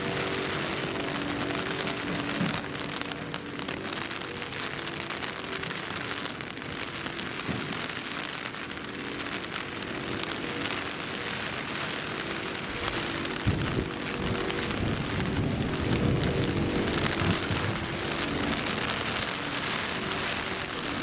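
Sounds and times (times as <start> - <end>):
heavy rain: 0.0 - 21.0
raindrops ticking close by: 0.0 - 21.0.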